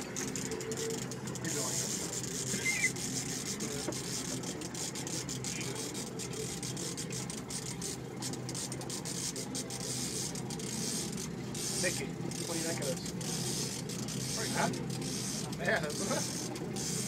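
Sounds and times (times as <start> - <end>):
boat engine low hum: 0.0 - 17.0
fishing reel ratchet clicking: 0.0 - 17.0.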